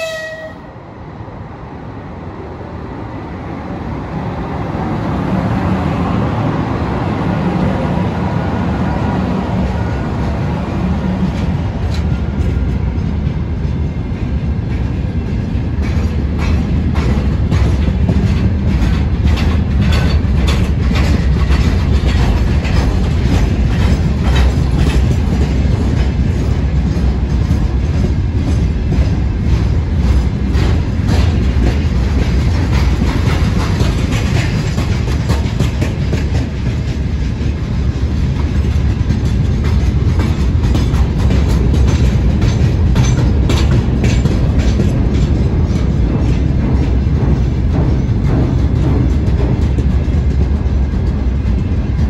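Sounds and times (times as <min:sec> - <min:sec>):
freight train rumbling past: 0:00.0 - 0:52.0
wheels clacking over rail joints: 0:09.5 - 0:52.0.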